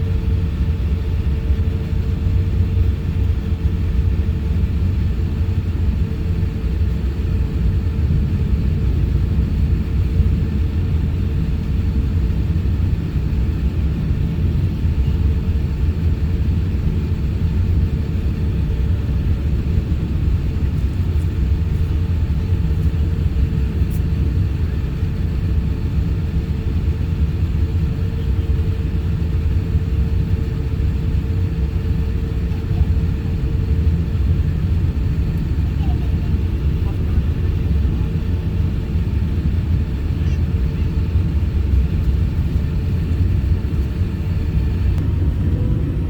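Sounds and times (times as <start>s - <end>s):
airliner engine and airflow rumble: 0.0s - 46.0s.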